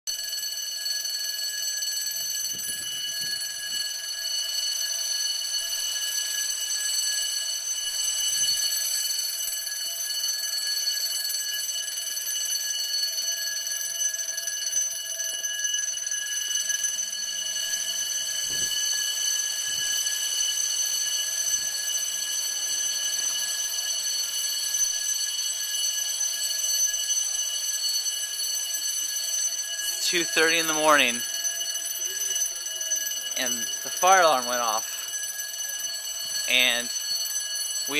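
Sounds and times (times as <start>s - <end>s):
fire alarm ringing: 0.1s - 37.9s.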